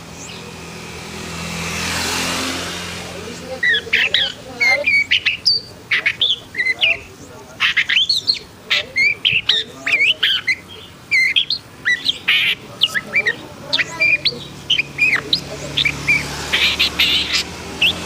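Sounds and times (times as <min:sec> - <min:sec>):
bird singing and squawking: 0:00.0 - 0:00.8, 0:03.0 - 0:18.0.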